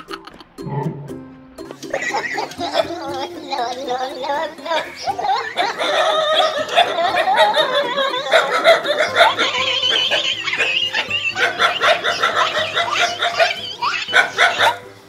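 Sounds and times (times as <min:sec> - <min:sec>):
laughter: 0:00.0 - 0:00.6, 0:01.8 - 0:03.6, 0:04.6 - 0:14.7.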